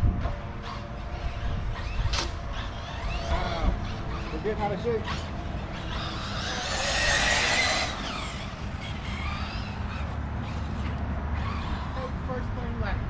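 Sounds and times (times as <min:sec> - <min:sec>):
model engine revving high whine: 0:00.0 - 0:13.0.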